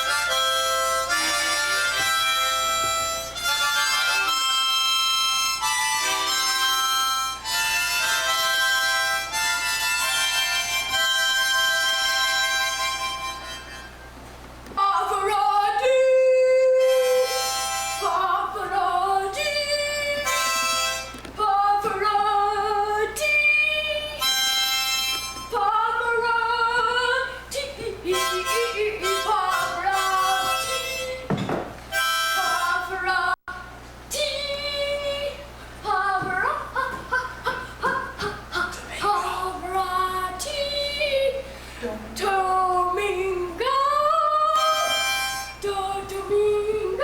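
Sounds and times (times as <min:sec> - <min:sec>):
harmonica notes and chords: 0:00.0 - 0:33.7, 0:36.6 - 0:41.4, 0:44.2 - 0:46.6.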